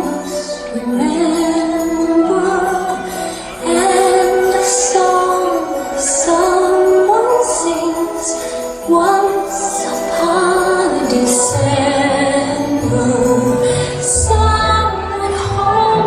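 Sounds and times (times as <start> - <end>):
woman singing slow song: 0.0 - 16.0.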